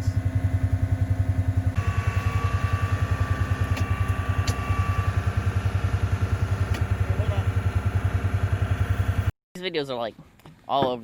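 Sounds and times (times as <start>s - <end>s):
vehicle engine idling low: 0.0s - 9.3s.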